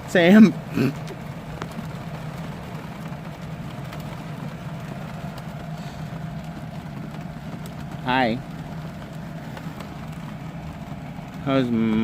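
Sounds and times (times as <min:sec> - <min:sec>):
air conditioner humming: 0:00.0 - 0:12.0
faint constant whine: 0:00.0 - 0:12.0.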